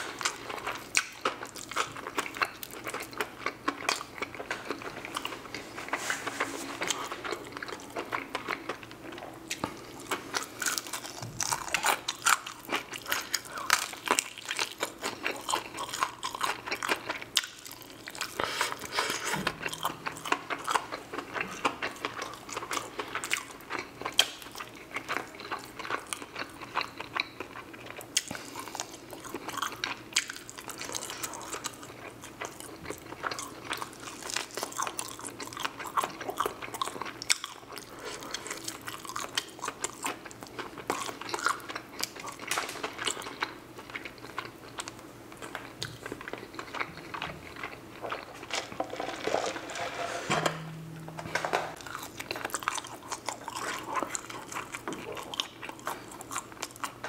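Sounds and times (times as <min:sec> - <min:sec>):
fried chicken crunching: 0:00.0 - 0:49.5, 0:51.7 - 0:57.0.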